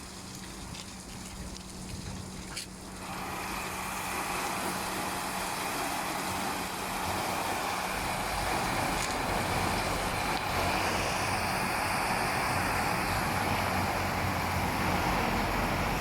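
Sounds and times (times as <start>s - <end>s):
spraying water rushing: 0.0s - 16.0s
machine motor hum: 2.9s - 16.0s.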